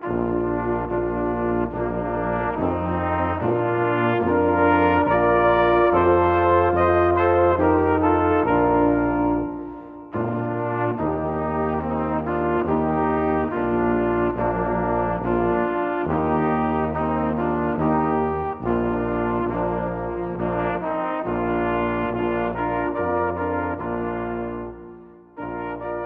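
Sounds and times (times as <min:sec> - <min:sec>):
slow brass ensemble music: 0:00.0 - 0:26.0.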